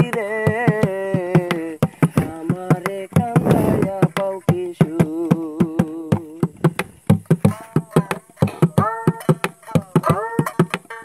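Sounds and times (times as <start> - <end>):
hand-drum or clapping strokes: 0.0 - 11.0
wavering folk melody: 0.0 - 11.0.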